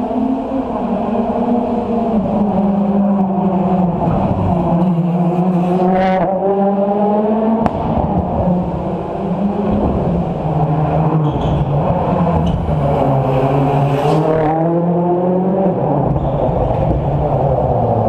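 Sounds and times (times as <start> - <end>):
rally car engine passing: 0.0 - 18.0.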